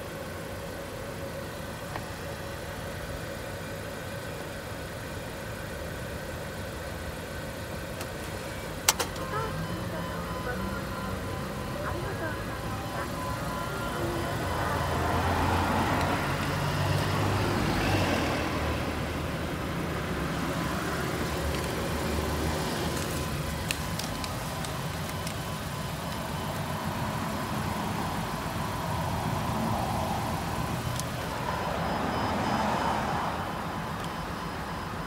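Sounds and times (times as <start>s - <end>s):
steady traffic rumble: 0.0s - 35.0s
cars passing by: 5.2s - 35.0s.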